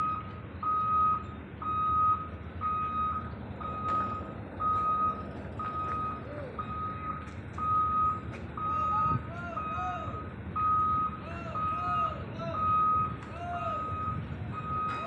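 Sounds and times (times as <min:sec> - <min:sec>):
diesel engine running: 0:00.0 - 0:15.0
excavator travel alarm beeping: 0:00.0 - 0:15.0.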